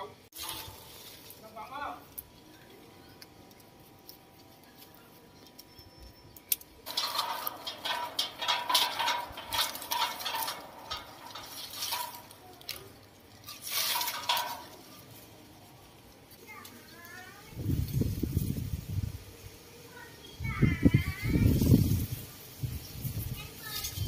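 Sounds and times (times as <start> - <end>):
leaves and twigs rustling: 0.0 - 24.0.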